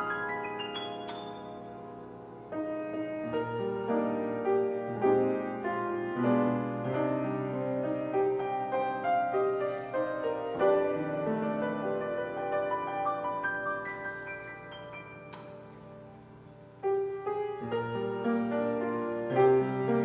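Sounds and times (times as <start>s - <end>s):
slow piano piece: 0.0s - 20.0s.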